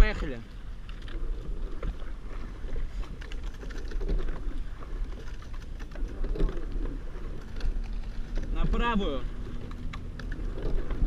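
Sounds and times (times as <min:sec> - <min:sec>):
oars clunking in oarlocks: 0:00.0 - 0:11.0
oars splashing in water: 0:00.0 - 0:11.0
wind rumble on microphone: 0:00.0 - 0:11.0.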